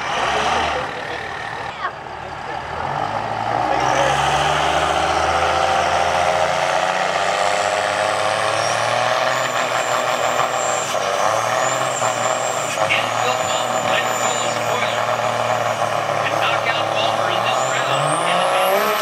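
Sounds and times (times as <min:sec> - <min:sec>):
diesel trucks at full throttle: 0:00.0 - 0:19.0.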